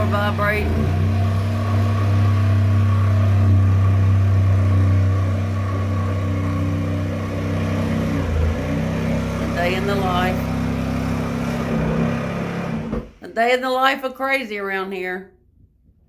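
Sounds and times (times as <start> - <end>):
power saw humming through floor: 0.0 - 13.2.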